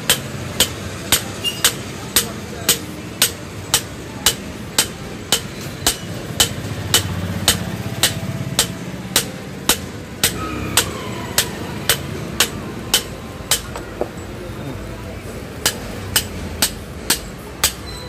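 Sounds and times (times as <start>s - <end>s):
hammer striking metal: 0.0s - 14.2s, 15.2s - 18.0s.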